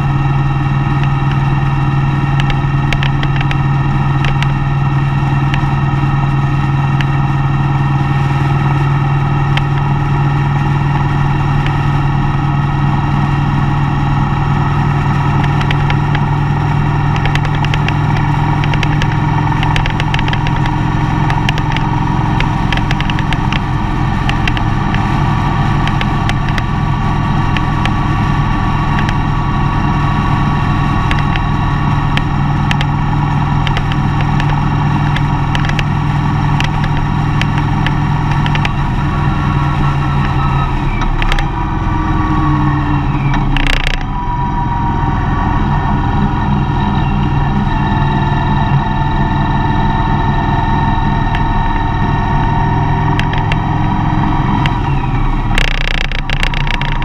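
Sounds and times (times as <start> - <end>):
road noise: 0.0 - 57.0
van engine running: 0.0 - 57.0.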